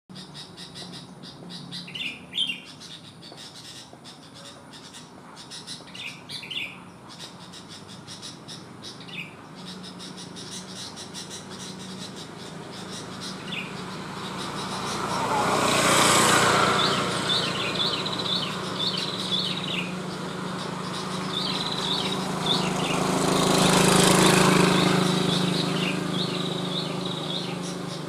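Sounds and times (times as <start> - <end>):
bulbul calling: 0.1 - 28.0.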